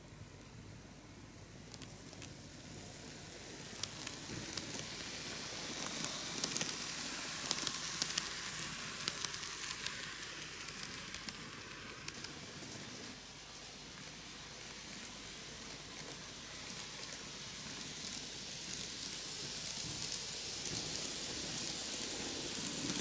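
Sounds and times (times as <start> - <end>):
model train whirring on track: 0.0 - 23.0
sharp clicks of train wheels: 1.4 - 23.0.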